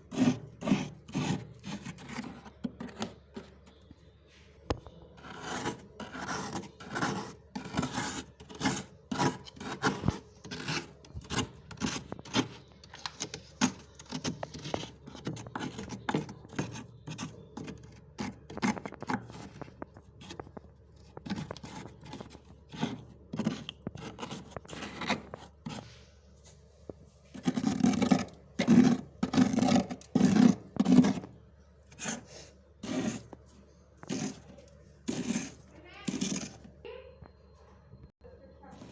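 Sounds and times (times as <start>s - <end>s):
freezer frost being scraped: 0.0s - 3.8s, 5.2s - 26.0s, 27.3s - 36.7s.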